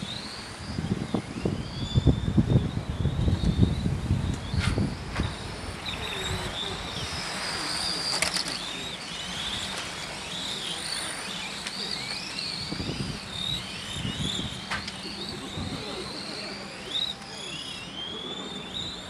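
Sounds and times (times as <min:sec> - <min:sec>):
radio-controlled car motors whining: 0:00.0 - 0:19.0.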